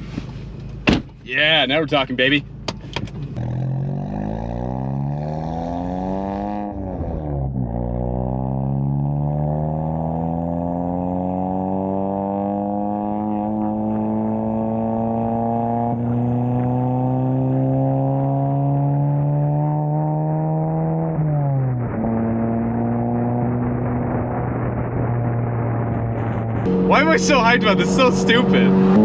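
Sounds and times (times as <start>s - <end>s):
car engine accelerating: 1.5s - 29.0s.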